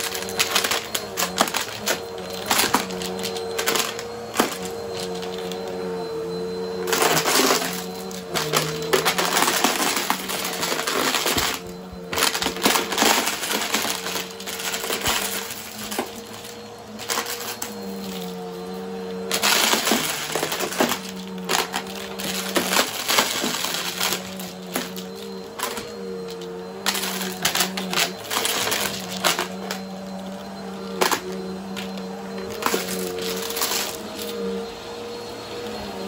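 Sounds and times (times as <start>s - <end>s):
vacuum cleaner motor humming: 0.0s - 36.0s.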